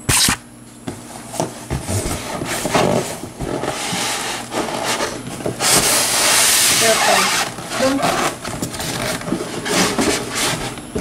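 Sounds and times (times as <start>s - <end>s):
cardboard and styrofoam rubbing: 1.0s - 11.0s.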